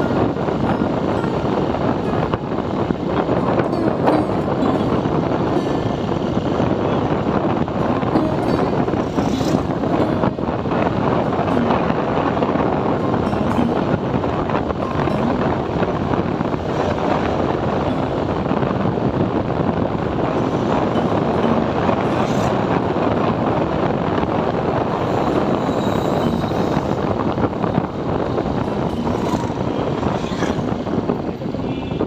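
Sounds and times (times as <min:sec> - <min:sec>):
motorcycle road noise: 0:00.0 - 0:32.0
wind rushing: 0:00.0 - 0:32.0.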